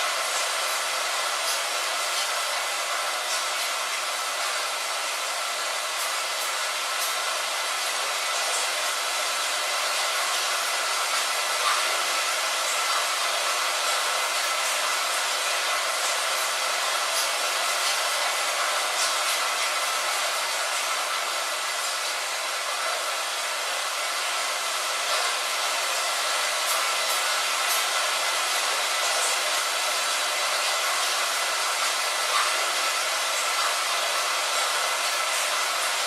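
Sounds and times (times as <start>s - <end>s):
rain against a window: 0.0s - 36.0s.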